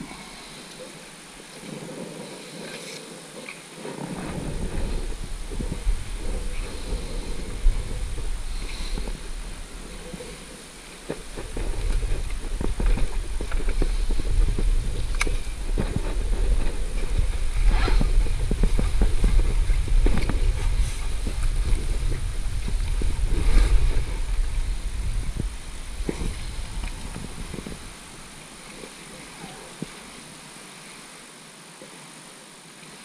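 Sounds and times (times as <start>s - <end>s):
wind buffeting microphone: 0.0s - 30.4s.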